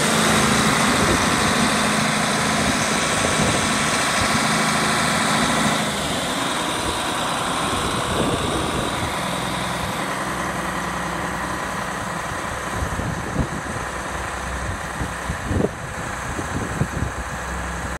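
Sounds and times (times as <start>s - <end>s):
diesel tractor idling: 0.0s - 17.9s.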